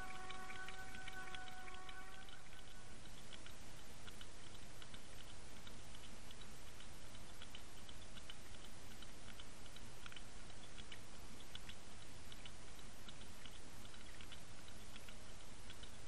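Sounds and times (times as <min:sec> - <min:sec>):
light irregular ticking: 0:00.0 - 0:16.0.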